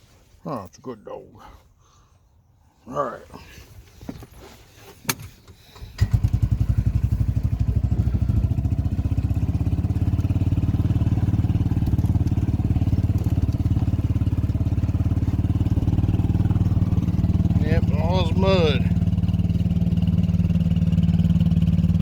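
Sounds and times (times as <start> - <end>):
small engine puttering: 4.1 - 22.0.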